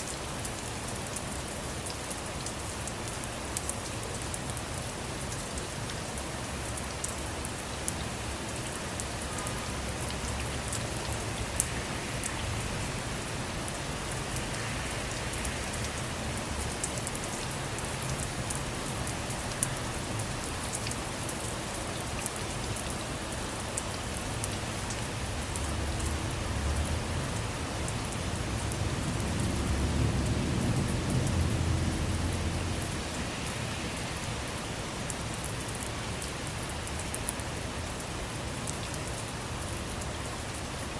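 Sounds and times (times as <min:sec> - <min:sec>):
rain falling on a car: 0:00.0 - 0:40.9.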